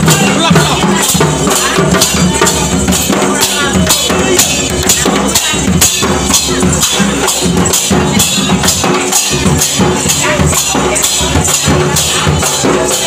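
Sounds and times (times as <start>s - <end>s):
music with drums and jingling percussion: 0.0s - 13.0s.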